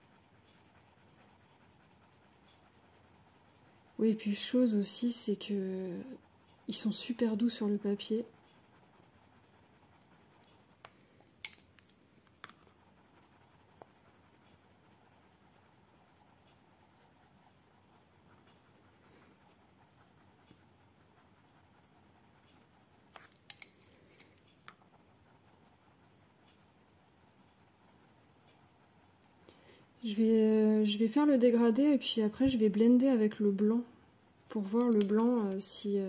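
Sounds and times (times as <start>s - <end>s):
coloured pencil scratching on paper: 0.0s - 36.0s.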